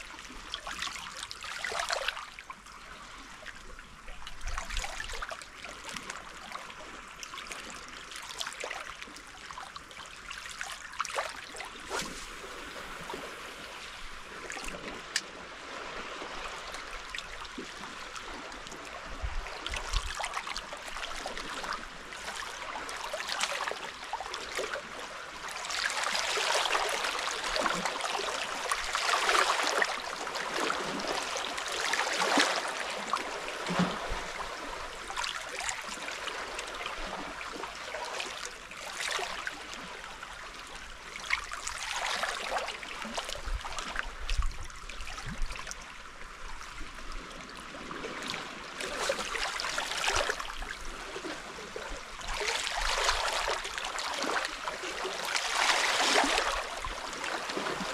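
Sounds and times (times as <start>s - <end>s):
small waves lapping against rocks: 0.0s - 57.9s.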